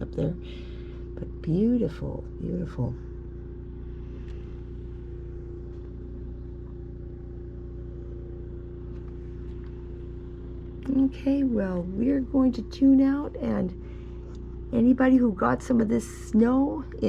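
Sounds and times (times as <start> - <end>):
snowblower engine running: 0.0 - 17.0.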